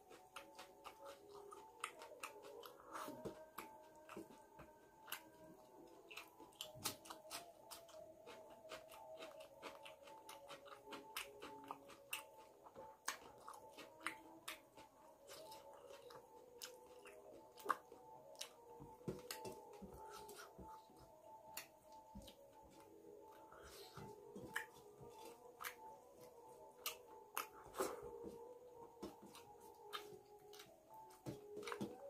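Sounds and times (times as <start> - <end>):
chewing with wet mouth clicks: 0.0 - 18.6, 19.2 - 28.0, 29.3 - 32.0.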